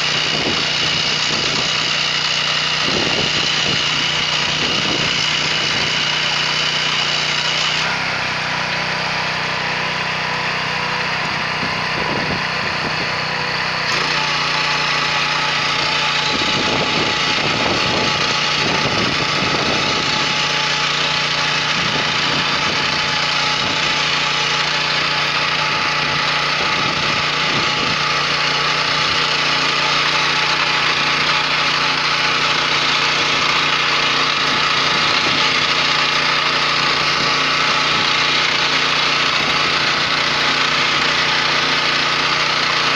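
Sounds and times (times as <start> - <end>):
tiller tines churning crop: 0.0 - 42.9
tractor engine running under load: 0.0 - 42.9.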